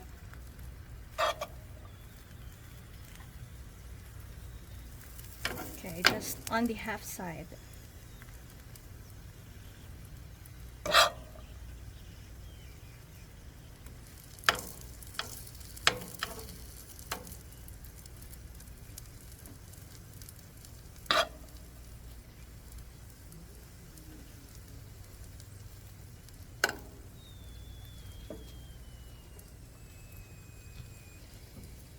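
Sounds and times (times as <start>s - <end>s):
food sizzling in a pan: 0.0s - 31.9s.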